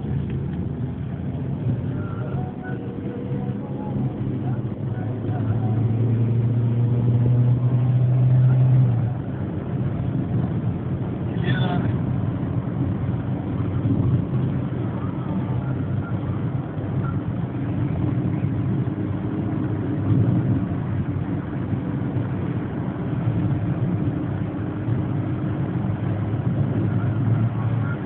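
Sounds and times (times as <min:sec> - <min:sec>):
car engine rumble: 0:00.0 - 0:28.0
road noise: 0:00.0 - 0:28.0.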